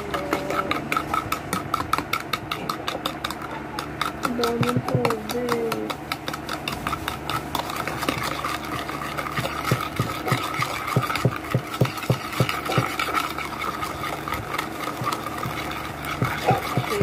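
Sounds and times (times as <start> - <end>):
spoon whipping in plastic bowl: 0.0 - 17.0
steady hum: 0.0 - 17.0.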